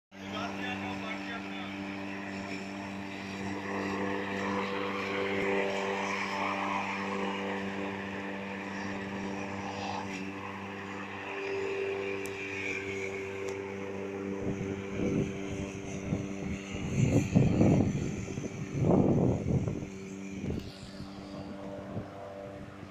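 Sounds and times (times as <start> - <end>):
electric lawn mower running: 0.1 - 22.9.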